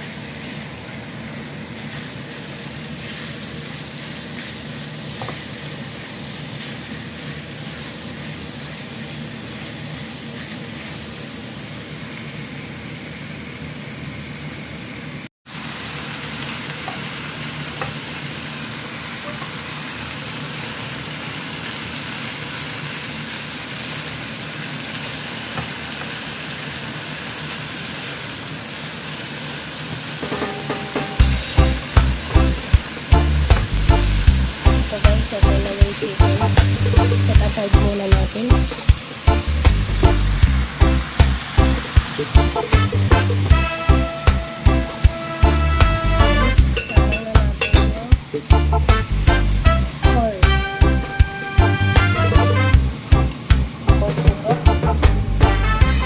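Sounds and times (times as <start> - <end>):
chicken sizzling in a pan: 0.0 - 56.0.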